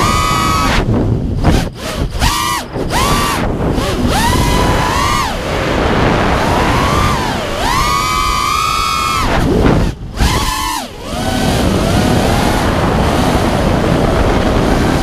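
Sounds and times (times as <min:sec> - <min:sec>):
drone motors whining: 0:00.0 - 0:15.0
wind rumbling on microphone: 0:00.0 - 0:15.0.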